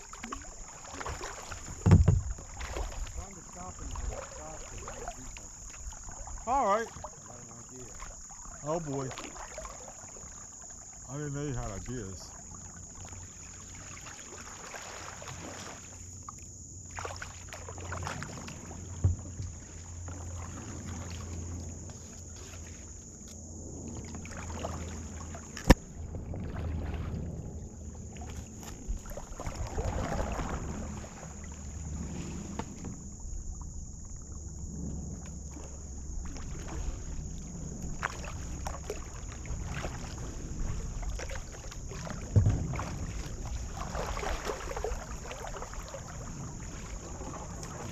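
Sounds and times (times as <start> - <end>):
paddle dipping and swishing: 0.0 - 47.9
water lapping at hull: 0.0 - 47.9.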